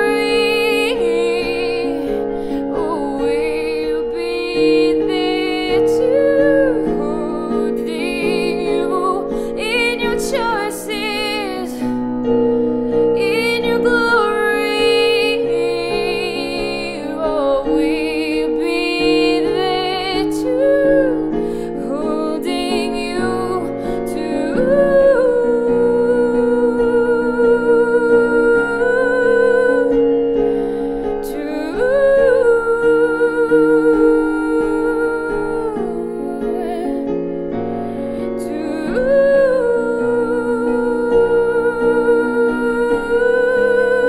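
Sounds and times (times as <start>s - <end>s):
soft acoustic sustained chords: 0.0s - 44.0s
woman singing with vibrato: 0.0s - 44.0s.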